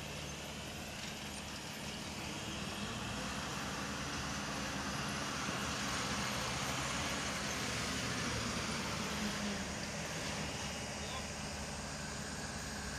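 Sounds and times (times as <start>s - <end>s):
diesel machinery engine drone: 0.0s - 12.9s.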